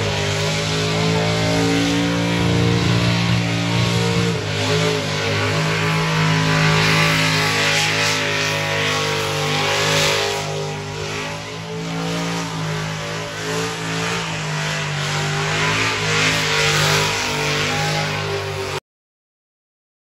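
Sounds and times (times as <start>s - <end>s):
car engine at high revs: 0.0s - 18.8s.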